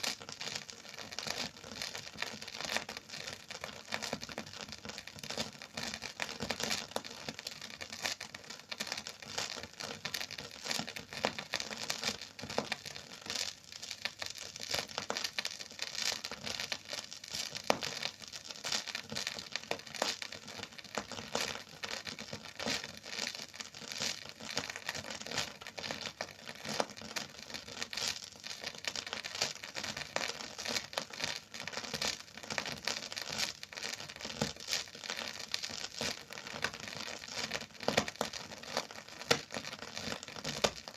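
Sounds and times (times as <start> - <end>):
vinyl record crackle and pops: 0.0 - 40.9.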